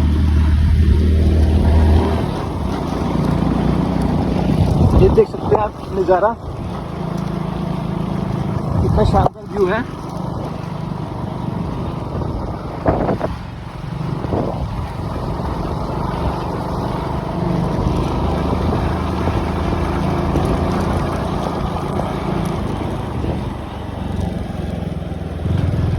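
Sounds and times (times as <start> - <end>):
wind on microphone: 0.0 - 6.9, 10.3 - 24.4
motorcycle engine running: 0.0 - 25.9.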